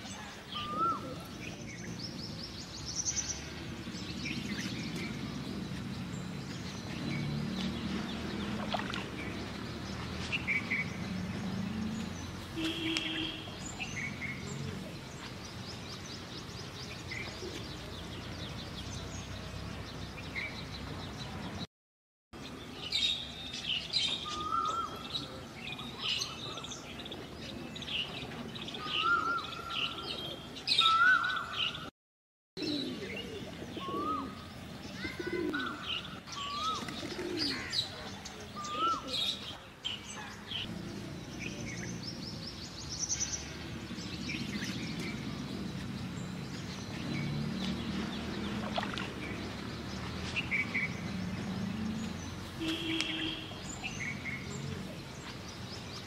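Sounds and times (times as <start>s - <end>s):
wild birds chirping: 0.0s - 21.7s, 22.4s - 31.9s, 32.6s - 56.0s.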